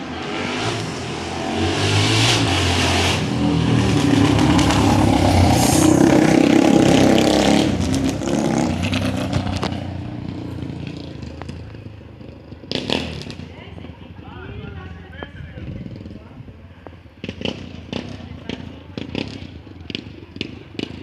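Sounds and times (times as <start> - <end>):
motorcycle engine revving: 0.0 - 14.6, 15.6 - 21.0.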